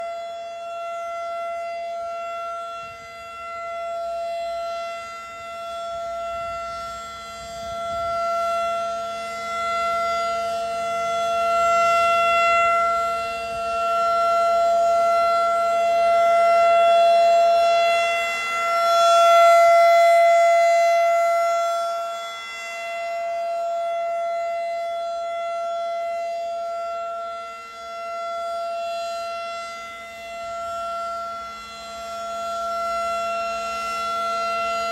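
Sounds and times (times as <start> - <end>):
warning siren steady tone: 0.0 - 34.9.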